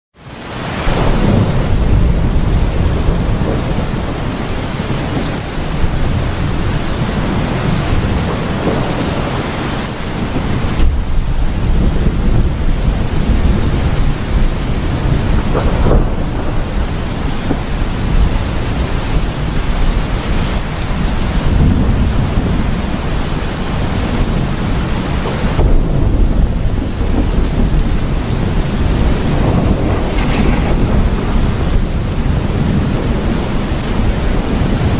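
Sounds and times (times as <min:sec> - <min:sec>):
heavy rain pouring: 0:00.2 - 0:34.9
thunder rumbling: 0:00.6 - 0:34.9.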